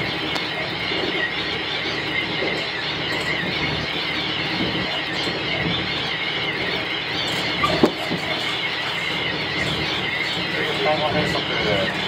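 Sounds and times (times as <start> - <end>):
high wavering squeal: 0.0 - 12.0.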